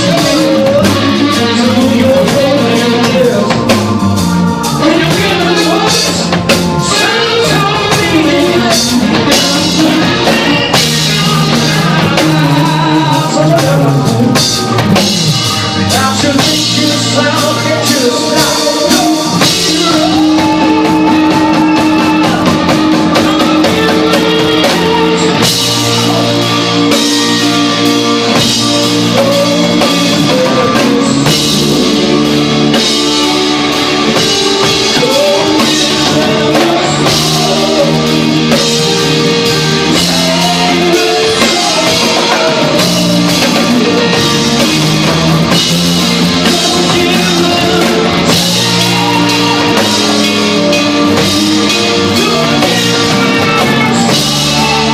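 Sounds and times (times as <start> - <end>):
drum kit: 0.0 - 54.9
electric guitar: 0.0 - 54.9
rock band playing live: 0.0 - 54.9.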